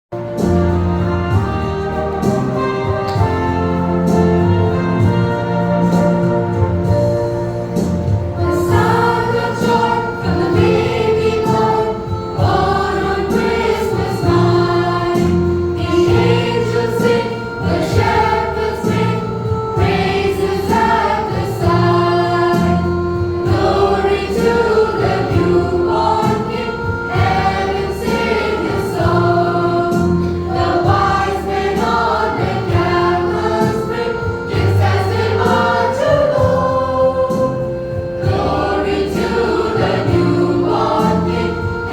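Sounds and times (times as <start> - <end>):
keyboard accompaniment: 0.1 - 41.9
children's choir singing gospel: 0.2 - 41.9.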